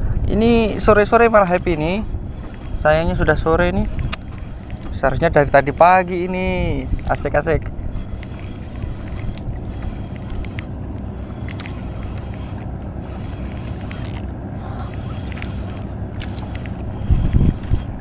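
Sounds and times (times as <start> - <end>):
boat engine rumble: 0.0 - 18.0.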